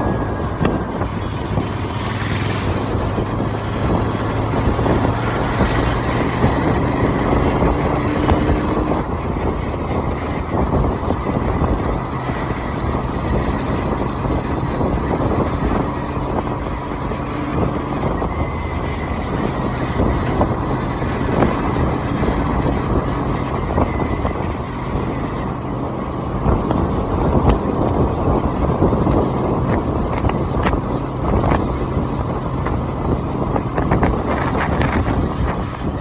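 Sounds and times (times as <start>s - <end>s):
motorcycle engine hum: 0.0s - 36.0s
road noise: 0.0s - 36.0s
wind noise: 0.0s - 36.0s.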